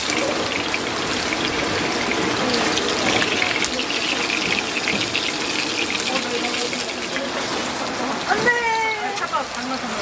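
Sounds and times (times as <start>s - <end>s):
food sizzling on a griddle: 0.0s - 10.0s.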